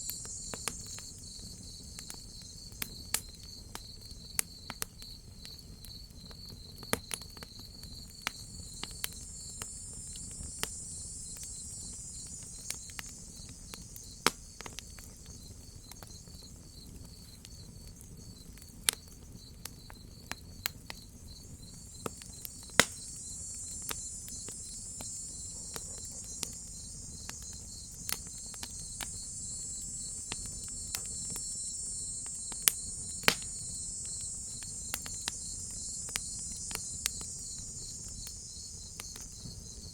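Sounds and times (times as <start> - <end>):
crickets chirping: 0.0 - 39.9
high insect chorus: 0.0 - 39.9
wood fire crackling and popping: 0.0 - 39.9.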